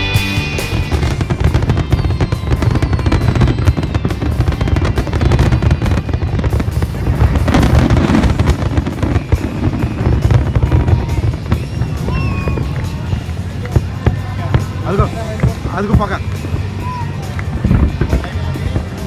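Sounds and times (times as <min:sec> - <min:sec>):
music playing: 0:00.0 - 0:19.0
fireworks bangs and crackles: 0:00.2 - 0:19.0.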